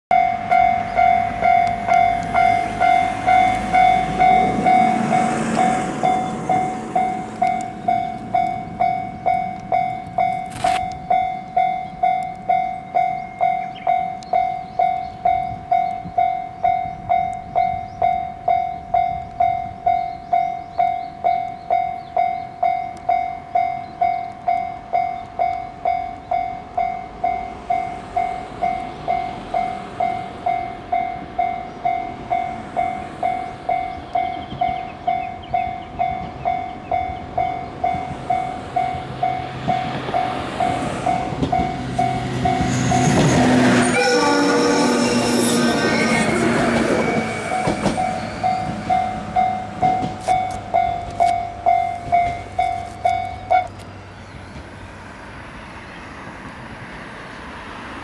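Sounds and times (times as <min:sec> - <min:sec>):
level-crossing warning bell ringing: 0:00.1 - 0:54.2
electric train rumble: 0:00.1 - 0:58.0.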